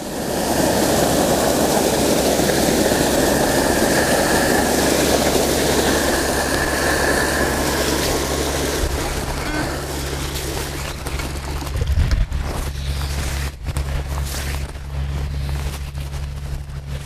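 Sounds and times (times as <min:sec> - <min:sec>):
water spraying onto pavement: 0:00.0 - 0:17.0.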